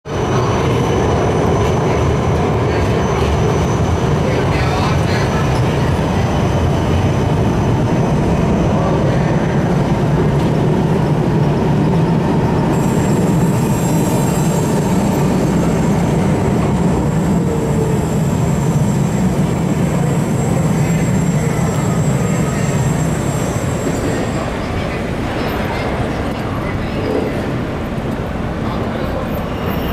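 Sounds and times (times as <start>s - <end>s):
tram wheels rumbling on rails: 0.1s - 29.9s.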